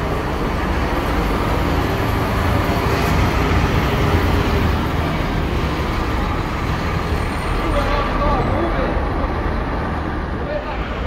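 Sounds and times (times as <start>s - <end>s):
bus diesel engine rumbling: 0.0s - 11.0s
traffic noise: 0.0s - 11.0s.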